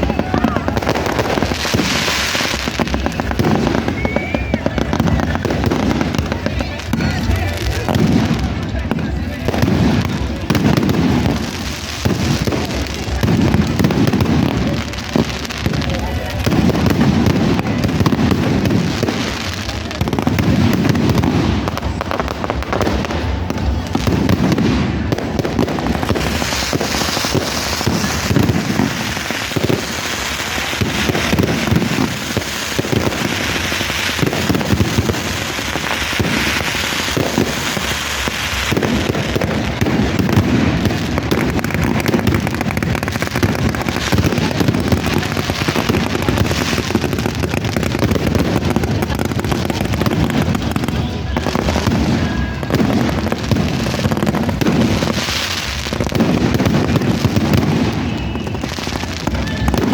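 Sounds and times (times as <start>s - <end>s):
fireworks popping and crackling: 0.0s - 59.9s.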